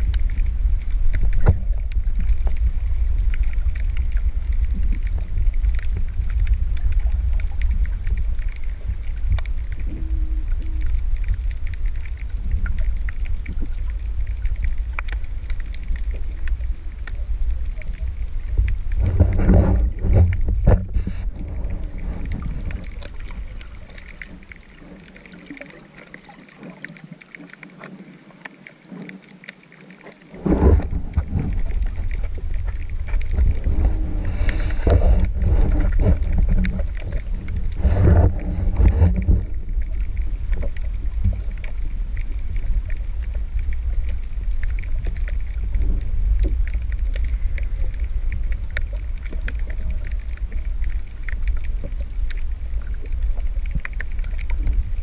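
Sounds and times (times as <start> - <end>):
faint crackling: 0.0 - 55.0
underwater rumble: 0.0 - 55.0.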